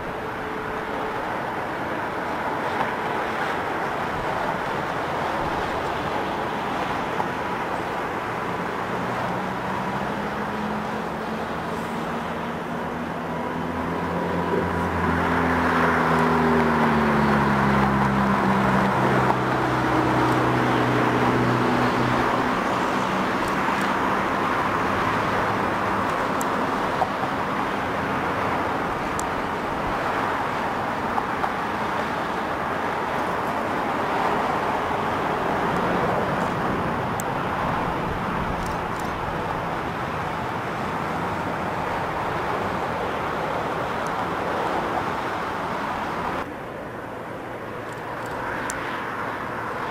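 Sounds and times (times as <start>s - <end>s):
jet engine roar: 0.0s - 49.9s.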